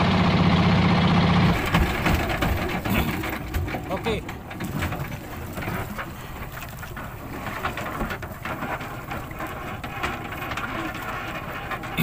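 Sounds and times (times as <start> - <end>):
boat engine drone: 0.0 - 12.0
water slapping against hull: 1.4 - 12.0.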